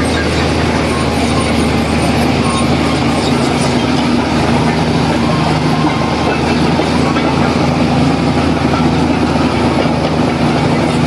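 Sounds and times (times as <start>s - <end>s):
heavy diesel engine clattering: 0.0s - 11.0s.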